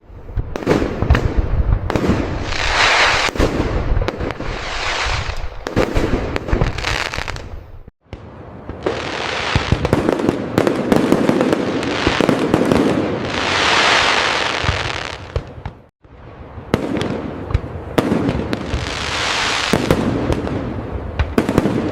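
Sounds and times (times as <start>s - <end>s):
fireworks bangs: 0.4s - 21.9s
fireworks crackle: 0.6s - 7.8s, 8.7s - 15.7s, 17.0s - 20.5s.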